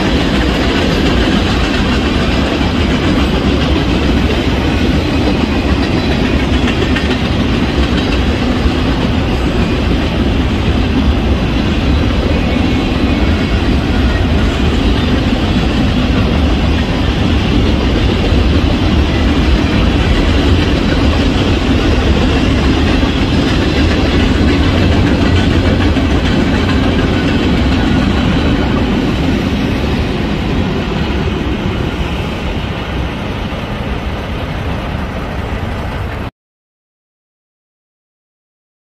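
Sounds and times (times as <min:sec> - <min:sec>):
wheels clattering over rail joints: 0:00.0 - 0:31.6
freight train rumbling past: 0:00.0 - 0:36.3.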